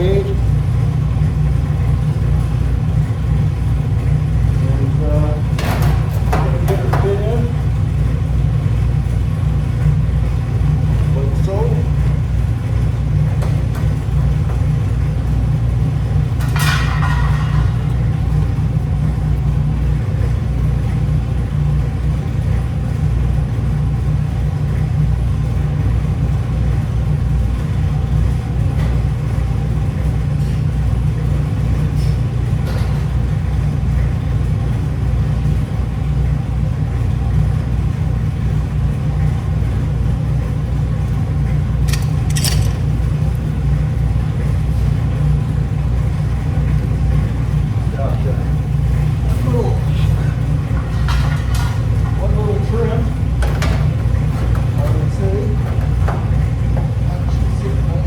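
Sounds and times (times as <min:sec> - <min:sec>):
steady low rumble: 0:00.0 - 0:58.0.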